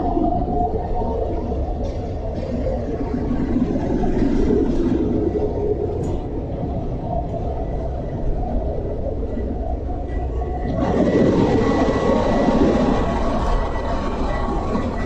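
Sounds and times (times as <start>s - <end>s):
faint steady whine: 0.0s - 15.0s
ship engine room drone: 0.0s - 15.0s.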